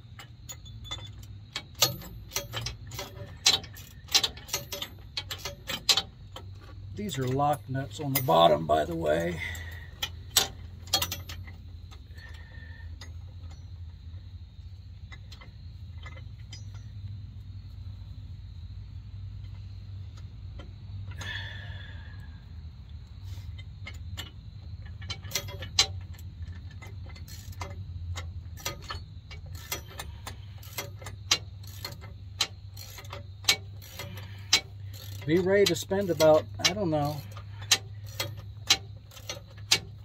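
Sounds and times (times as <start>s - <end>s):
wrench metallic clicks: 0.0s - 13.8s, 15.1s - 17.2s, 23.0s - 40.0s
steady low hum: 0.0s - 40.0s.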